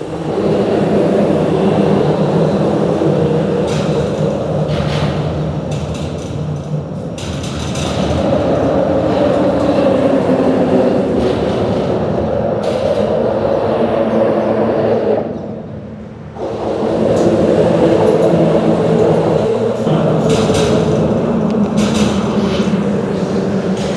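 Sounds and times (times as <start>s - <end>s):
loud mechanical rumble: 0.0s - 23.9s.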